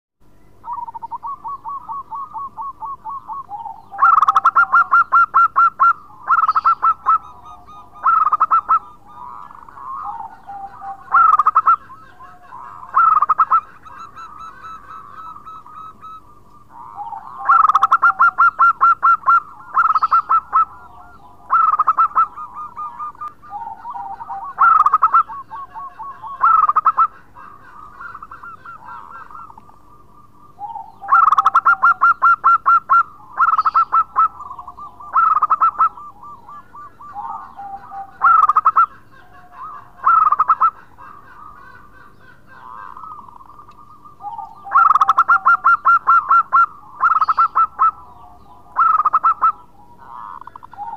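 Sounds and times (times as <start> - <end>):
dove cooing: 0.6 - 50.9.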